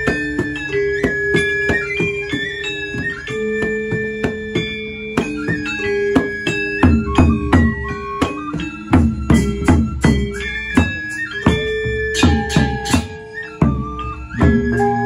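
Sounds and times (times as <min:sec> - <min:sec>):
gamelan gong ensemble playing: 0:00.0 - 0:15.0.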